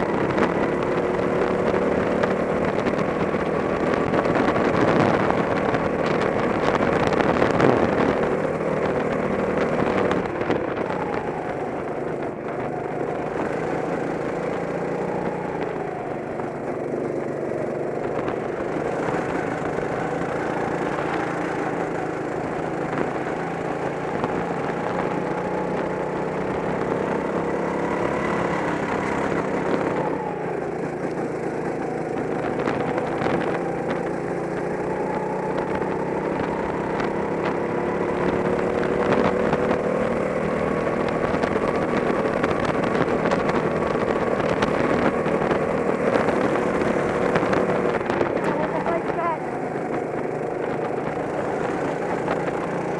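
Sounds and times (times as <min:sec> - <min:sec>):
go-kart engine revving: 0:00.0 - 0:52.9.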